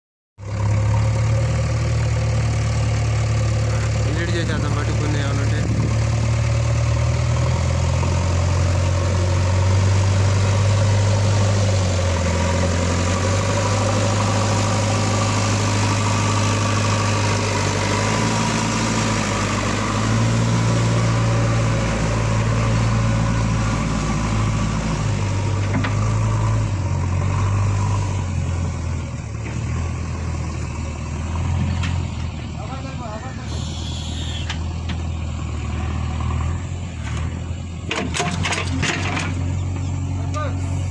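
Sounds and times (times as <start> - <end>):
diesel engines running: 0.4 - 40.9.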